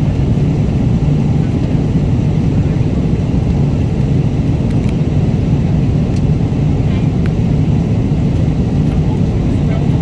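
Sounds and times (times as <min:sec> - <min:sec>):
airliner cabin noise: 0:00.0 - 0:10.0.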